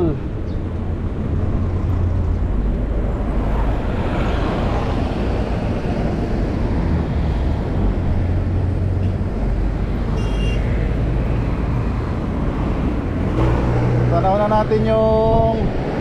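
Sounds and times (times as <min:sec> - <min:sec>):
bicycle road noise: 0:00.0 - 0:16.0
wind rumble on microphone: 0:00.0 - 0:16.0.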